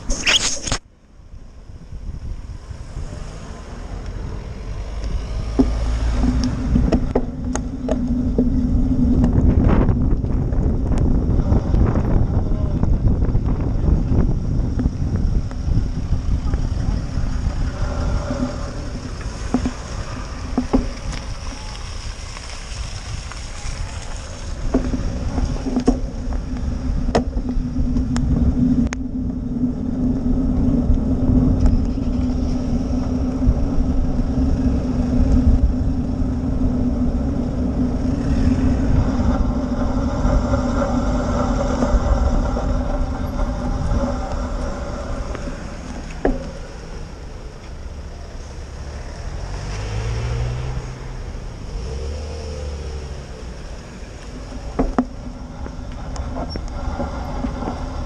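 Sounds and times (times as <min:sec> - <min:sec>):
road noise: 0:00.0 - 0:58.0
steady low hum: 0:00.0 - 0:58.0
wind rumbling on microphone: 0:00.0 - 0:58.0.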